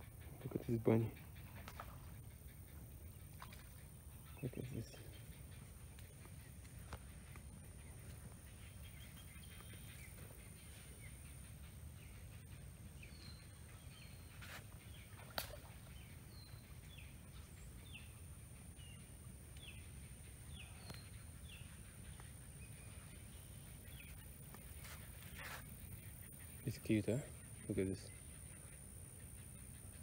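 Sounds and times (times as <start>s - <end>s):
faint birdsong chirps: 0.0s - 30.0s.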